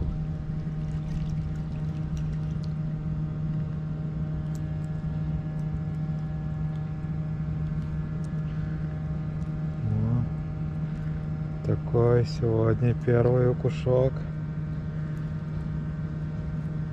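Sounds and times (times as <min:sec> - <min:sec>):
low engine hum: 0:00.0 - 0:16.9.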